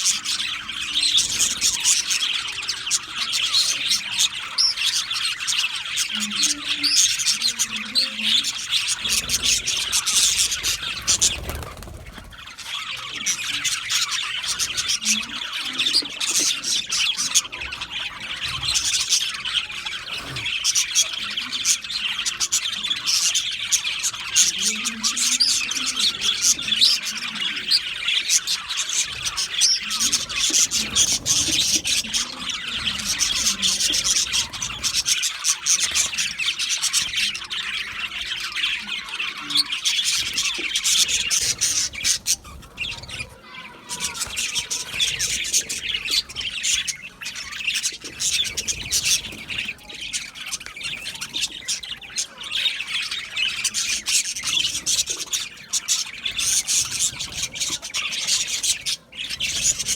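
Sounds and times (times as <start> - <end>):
budgerigars chirping and chattering: 0.0 - 59.9.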